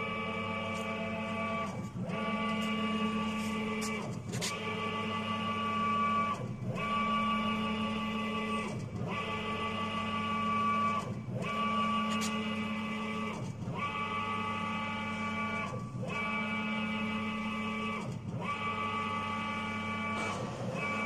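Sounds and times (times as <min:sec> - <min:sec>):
cnc router motor whine: 0:00.0 - 0:21.0.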